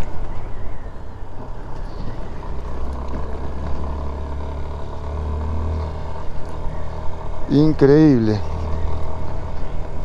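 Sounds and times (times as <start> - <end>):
motorcycle engine on gravel road: 0.0 - 10.0.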